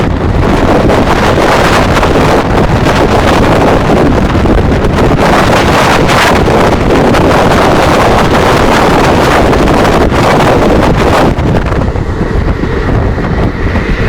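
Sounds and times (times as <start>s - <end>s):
fast train passing: 0.0s - 14.0s
wind buffeting microphone: 0.0s - 14.0s.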